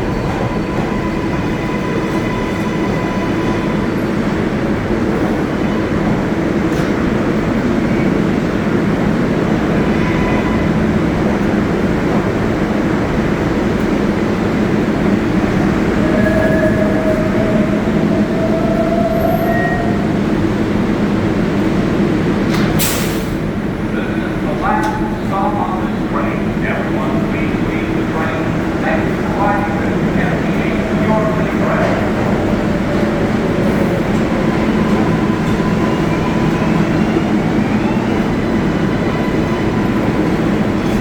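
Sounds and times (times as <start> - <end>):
subway train rumbling: 0.0 - 41.0.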